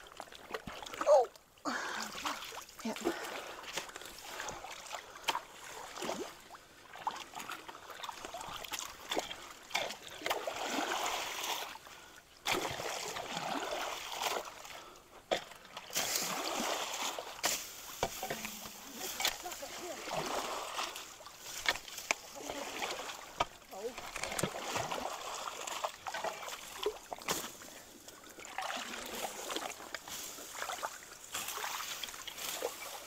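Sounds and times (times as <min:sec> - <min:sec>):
creek water splashing: 0:00.0 - 0:33.0
sharp splashes and knocks: 0:02.1 - 0:11.8, 0:12.4 - 0:33.0.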